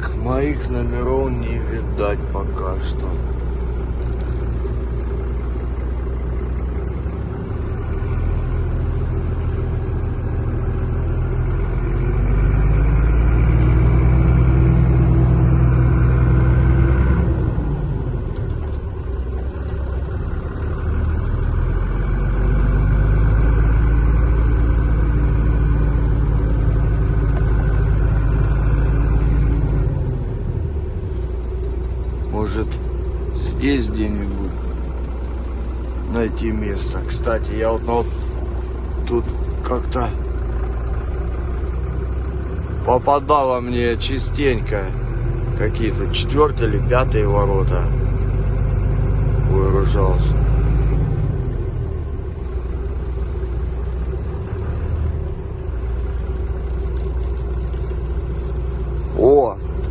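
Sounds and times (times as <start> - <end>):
truck engine revving under load: 0.0 - 59.9.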